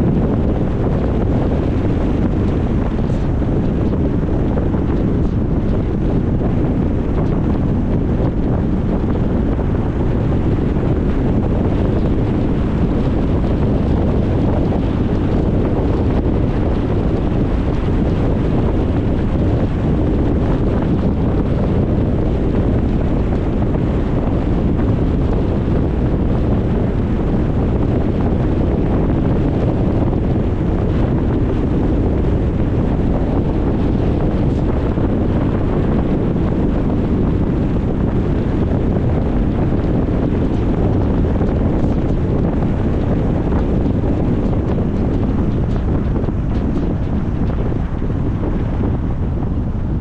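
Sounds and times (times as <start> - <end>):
car wind and road noise: 0.0 - 50.0
wind buffeting microphone: 0.0 - 50.0.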